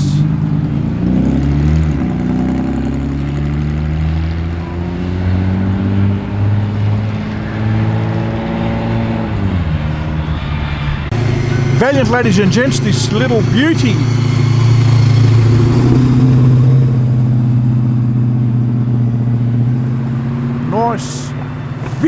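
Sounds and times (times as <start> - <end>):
car engine revving under load: 0.0 - 22.0.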